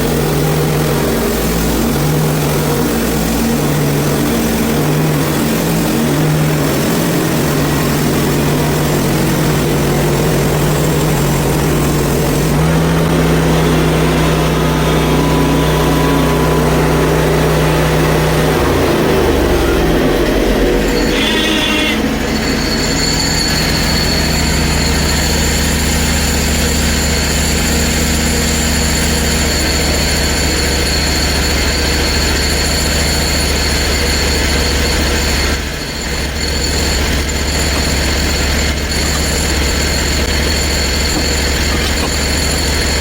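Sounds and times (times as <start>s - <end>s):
saw blade whine cutting log: 0.0s - 43.0s
sawmill engine drone: 0.0s - 43.0s.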